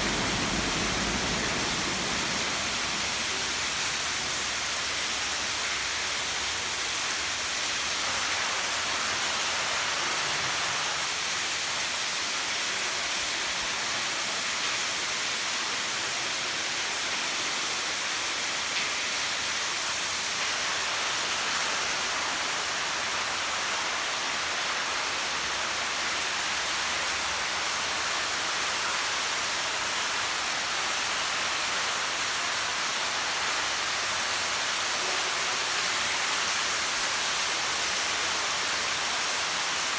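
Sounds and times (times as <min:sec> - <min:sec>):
water feature splashing: 0:00.0 - 0:39.9.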